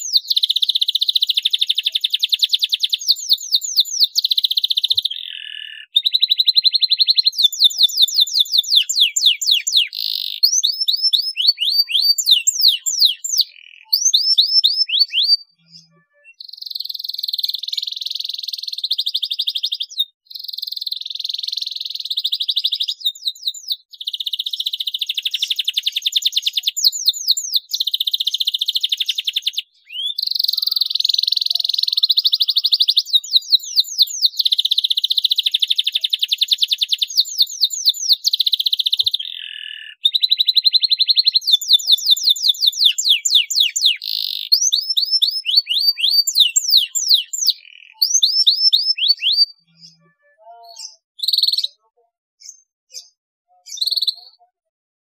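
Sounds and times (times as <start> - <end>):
canary singing trills: 0.0 - 54.7.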